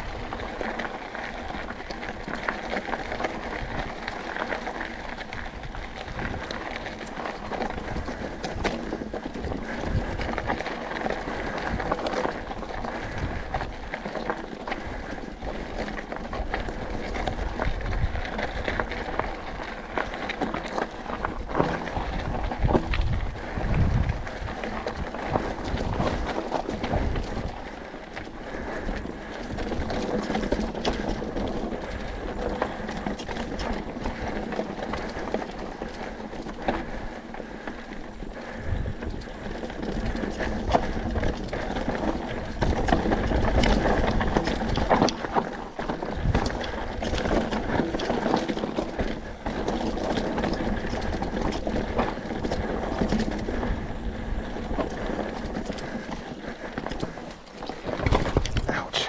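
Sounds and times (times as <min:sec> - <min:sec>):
bike rattling over rocks: 0:00.0 - 0:59.0
tyres crunching over gravel: 0:00.0 - 0:59.0.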